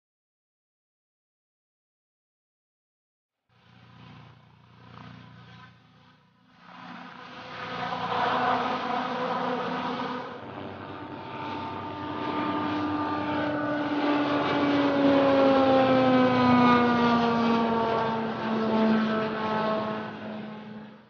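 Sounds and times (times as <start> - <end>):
helicopter flying past: 3.5 - 21.0.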